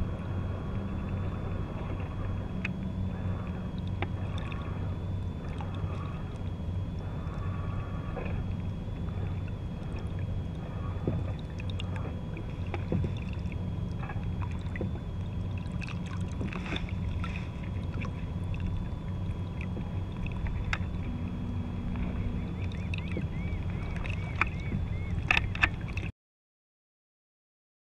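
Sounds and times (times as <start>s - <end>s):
steady low rumble: 0.0s - 26.1s
water splashing around boat: 0.0s - 26.1s.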